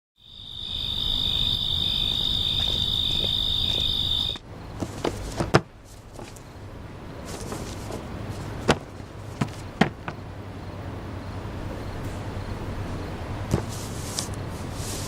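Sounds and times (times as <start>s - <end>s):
insects trilling: 0.2s - 13.4s.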